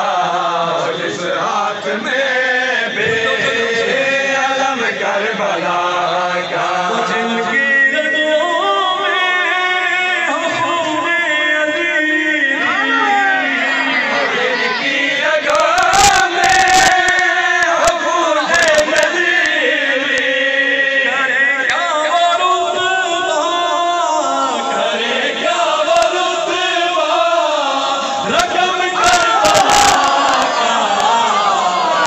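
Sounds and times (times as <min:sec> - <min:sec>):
man chanting into a microphone: 0:00.0 - 0:31.4
crowd of men chanting: 0:00.0 - 0:32.0.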